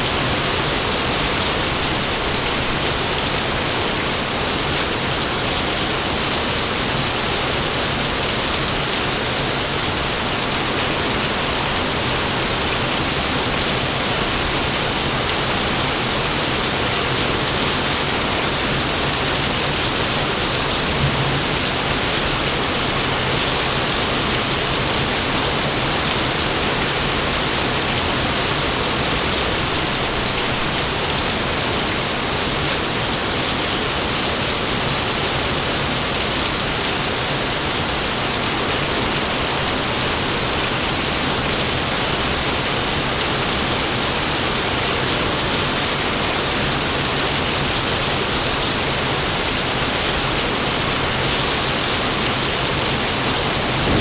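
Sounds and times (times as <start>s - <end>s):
heavy rain hissing: 0.1s - 54.0s.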